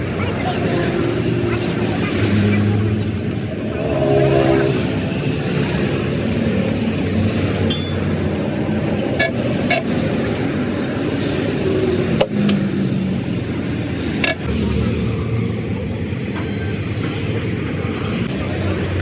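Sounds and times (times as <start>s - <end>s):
vehicle engine and traffic noise: 0.0s - 19.0s.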